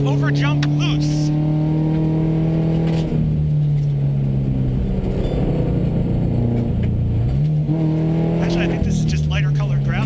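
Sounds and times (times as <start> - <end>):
rally car engine from inside cabin: 0.0 - 10.0.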